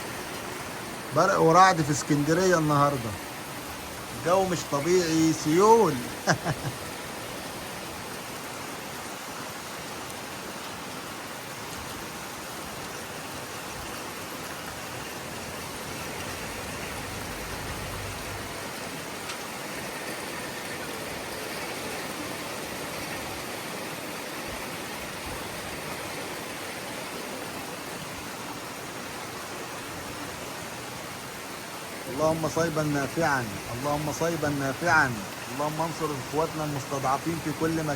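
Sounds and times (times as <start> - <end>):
heavy rain hissing: 0.0 - 37.9.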